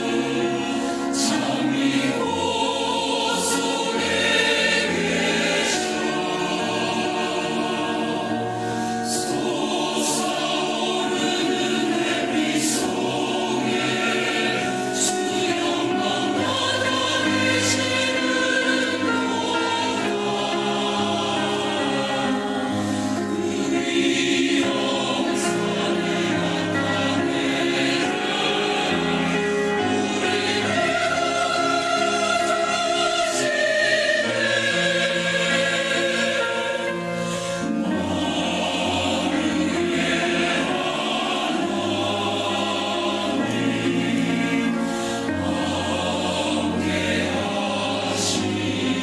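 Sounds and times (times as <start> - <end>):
church choir singing: 0.0 - 49.0.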